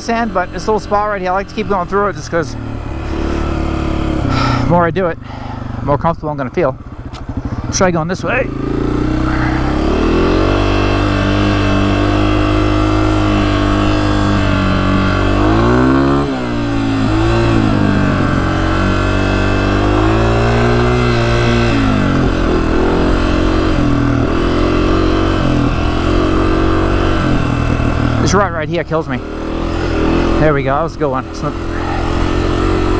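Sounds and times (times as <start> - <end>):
dirt bike engine: 0.0 - 32.9.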